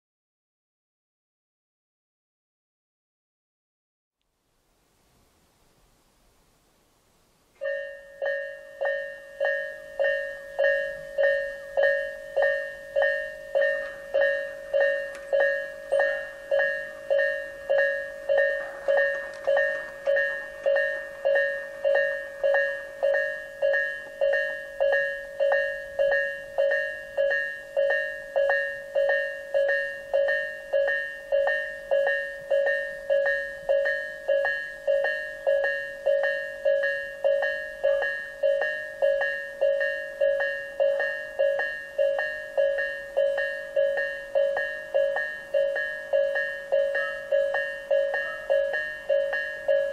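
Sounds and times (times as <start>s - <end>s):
level crossing warning bell: 7.6s - 49.9s.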